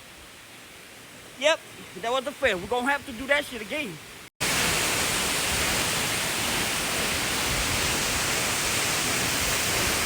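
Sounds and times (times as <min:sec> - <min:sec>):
waterfall roaring: 0:00.3 - 0:10.0.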